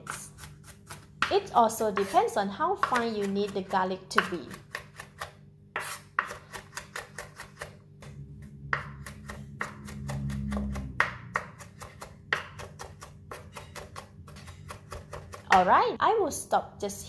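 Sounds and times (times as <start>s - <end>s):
knife chopping on board: 0.0s - 15.8s.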